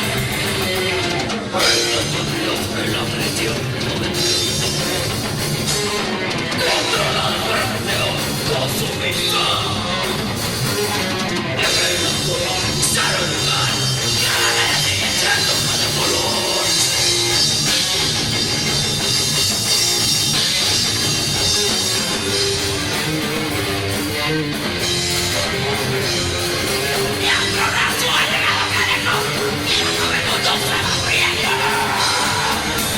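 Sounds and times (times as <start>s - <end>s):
drum kit: 0.0s - 32.9s
electric guitar: 0.0s - 32.9s
heavy rock band playing: 0.0s - 32.9s.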